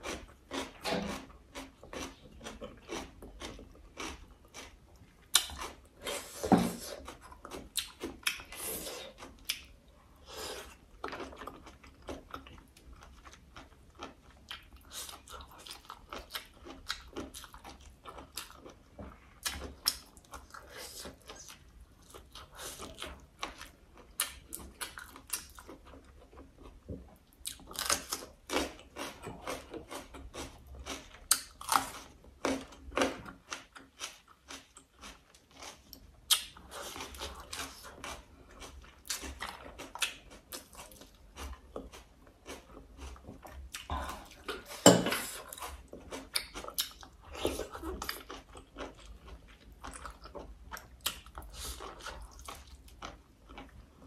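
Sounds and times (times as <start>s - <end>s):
crunchy eating and chewing: 0.0s - 54.0s.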